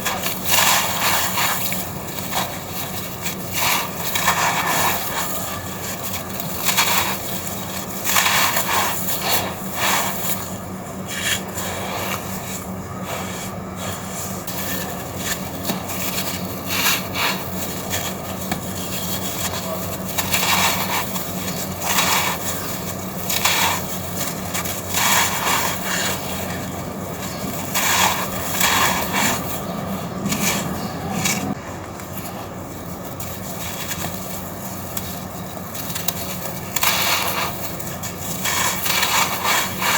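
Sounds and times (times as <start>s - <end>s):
gritty grinding of crumbling chunks: 0.0s - 39.9s.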